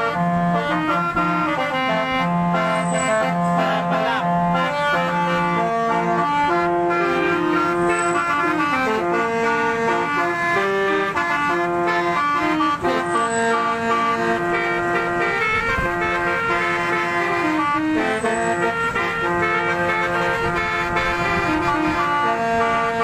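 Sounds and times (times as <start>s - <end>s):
musical car horn playing a tune: 0.0s - 23.0s.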